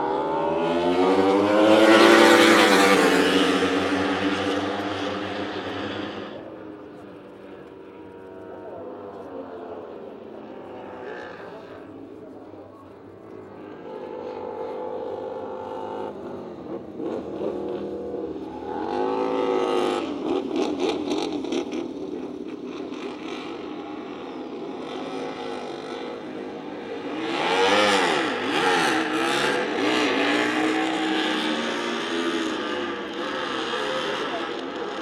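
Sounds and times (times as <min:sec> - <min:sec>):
racing motorcycle engine revving: 0:00.0 - 0:08.3, 0:13.8 - 0:35.0.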